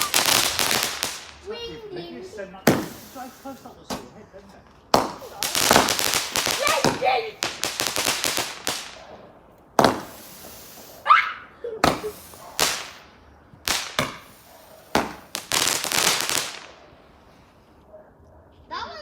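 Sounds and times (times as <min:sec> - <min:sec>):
fireworks bangs: 0:00.0 - 0:17.5
fireworks crackling: 0:00.0 - 0:17.8.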